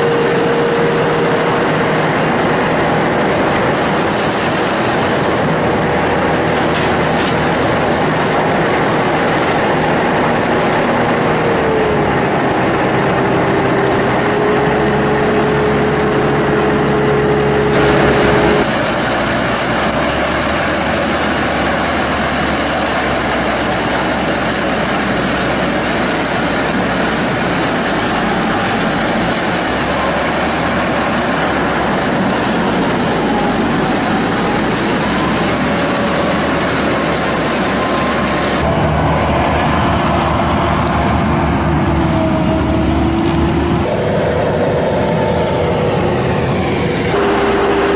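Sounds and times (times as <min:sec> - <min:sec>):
harvester engine running: 0:00.0 - 0:47.9.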